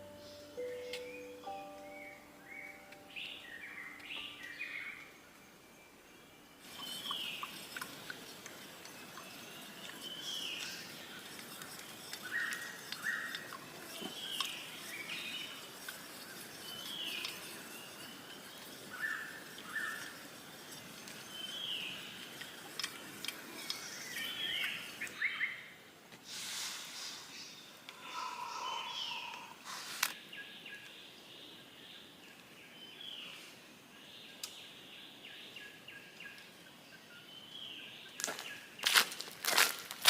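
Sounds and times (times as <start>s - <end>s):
birds chirping: 0.0s - 25.9s, 27.0s - 40.0s
steady outdoor hiss: 0.0s - 40.0s.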